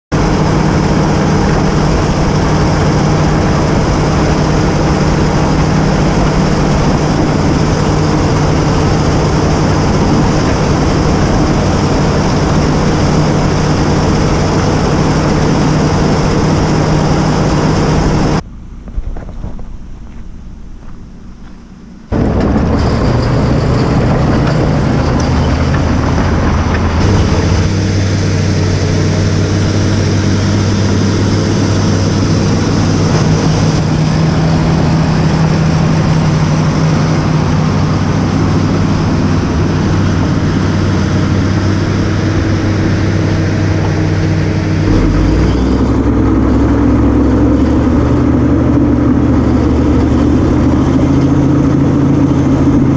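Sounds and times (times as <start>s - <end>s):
bulldozer diesel engine running: 0.1s - 52.9s.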